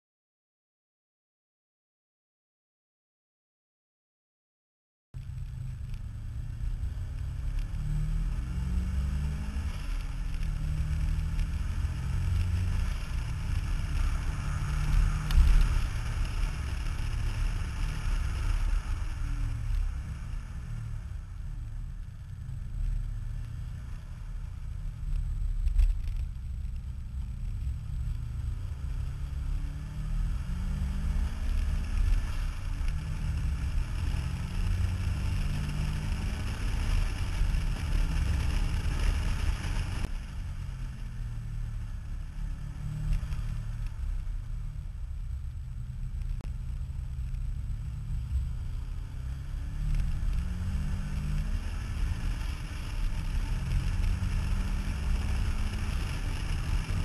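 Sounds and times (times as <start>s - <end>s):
car engine: 5.2s - 57.0s
road noise: 5.2s - 57.0s.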